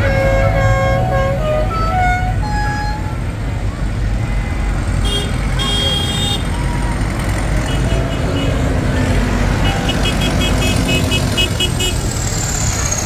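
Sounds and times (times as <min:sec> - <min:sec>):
tractor engines rumbling: 0:00.0 - 0:13.0.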